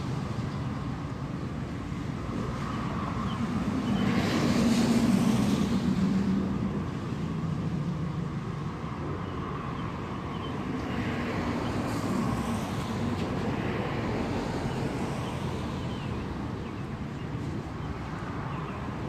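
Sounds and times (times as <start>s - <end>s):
cars passing: 0.0s - 19.0s.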